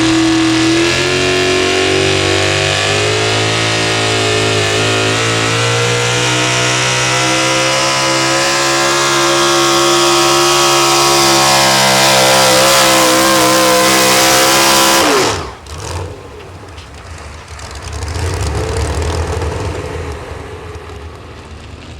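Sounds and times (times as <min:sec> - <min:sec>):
truck engine at full throttle: 0:00.0 - 0:21.9.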